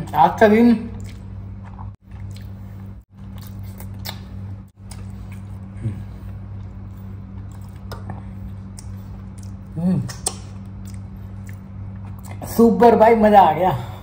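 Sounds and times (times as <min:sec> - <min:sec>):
steady low hum: 0:00.0 - 0:14.0
soft chewing: 0:00.9 - 0:12.5.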